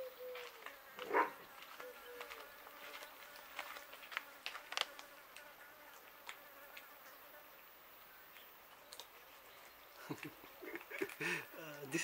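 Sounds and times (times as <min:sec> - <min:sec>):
fly buzzing: 0:00.0 - 0:12.0.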